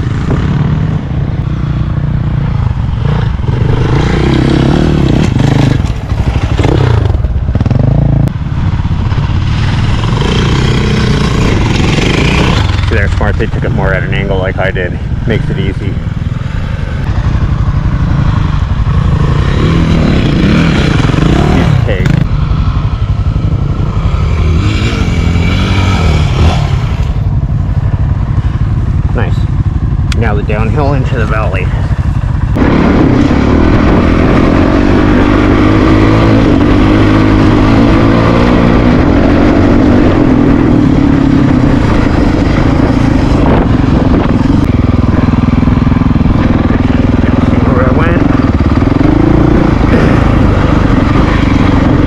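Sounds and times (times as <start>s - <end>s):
dirt bike engines revving: 0.0s - 52.0s.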